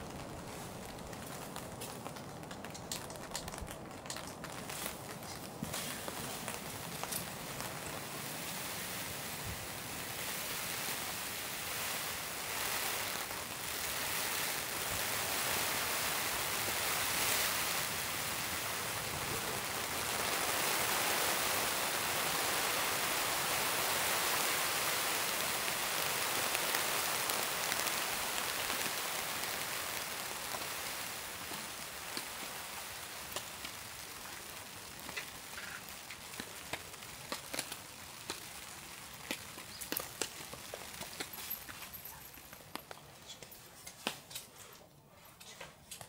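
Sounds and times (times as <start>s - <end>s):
steady rain: 0.0s - 44.2s.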